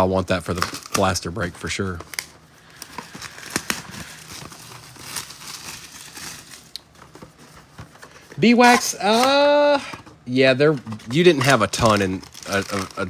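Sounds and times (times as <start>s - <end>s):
card packaging crinkling: 0.0s - 9.8s, 10.7s - 13.0s.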